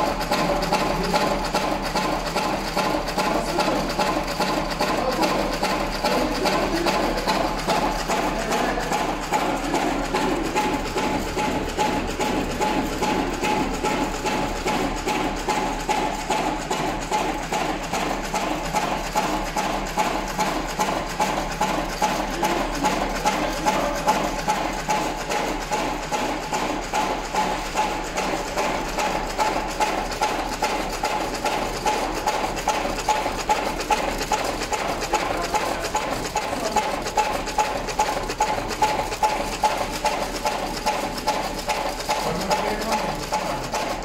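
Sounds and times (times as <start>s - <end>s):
mechanical clacks: 0.0s - 44.0s.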